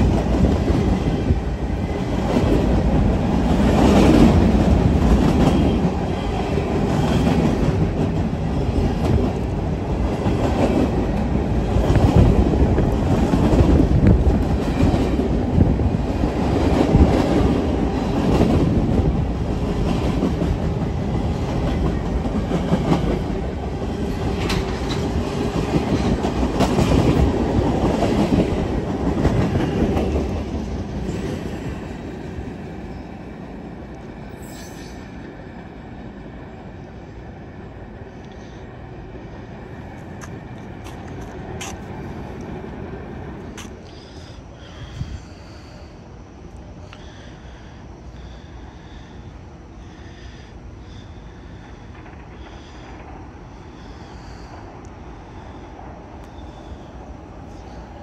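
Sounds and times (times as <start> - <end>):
freight train cars rolling past: 0.0 - 43.8, 51.5 - 58.0.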